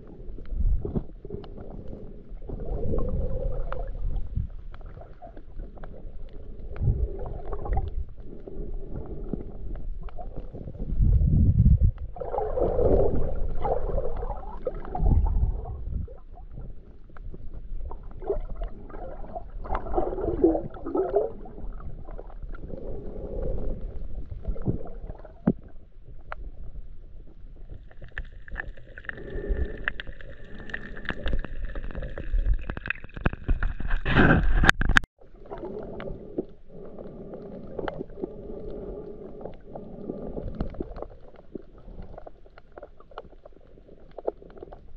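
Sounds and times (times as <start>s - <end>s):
underwater bubbling water: 0.0s - 44.9s.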